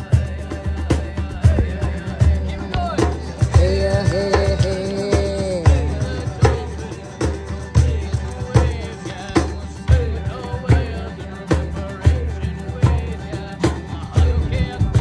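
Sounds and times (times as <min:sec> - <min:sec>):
drums playing steady beat: 0:00.0 - 0:15.0.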